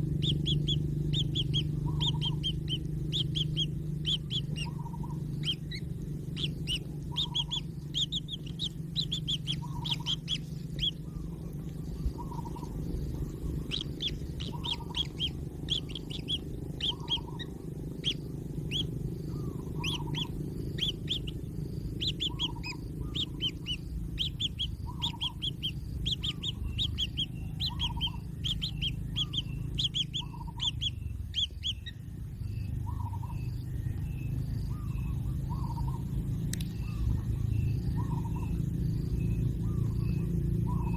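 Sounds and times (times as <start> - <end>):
birds chirping high notes: 0.0 - 40.9
lower bird call: 0.0 - 40.9
steady low hum: 0.0 - 40.9.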